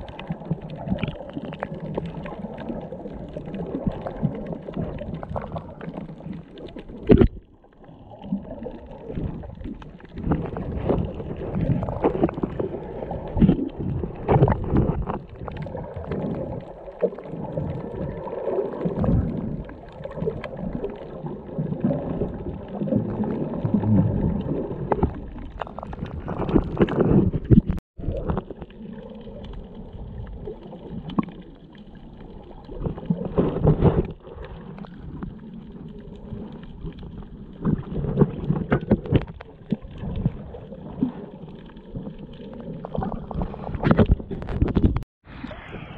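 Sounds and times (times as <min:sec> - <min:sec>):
underwater water sloshing: 0:00.0 - 0:45.9.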